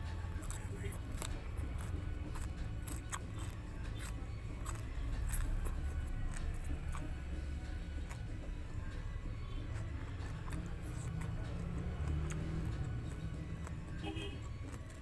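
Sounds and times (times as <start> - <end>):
chewing and lip-smacking: 0.0 - 15.0
wet mouth clicks: 0.2 - 9.1, 9.7 - 15.0.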